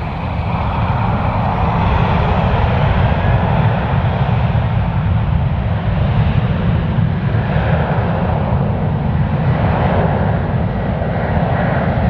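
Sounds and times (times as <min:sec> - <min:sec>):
jet engines at taxi power: 0:00.0 - 0:12.0.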